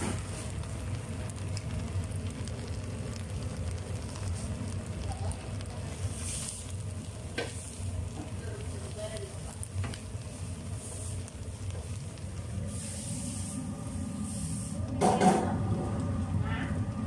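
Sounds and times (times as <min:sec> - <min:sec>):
oil sizzling in a frying pan: 0:00.0 - 0:17.0
steady low hum: 0:00.0 - 0:17.0.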